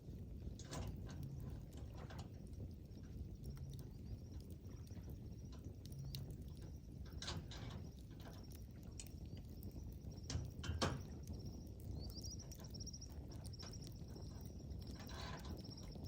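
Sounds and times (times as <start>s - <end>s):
campfire crackling and popping: 0.0s - 16.0s
low steady rumble: 0.0s - 16.0s.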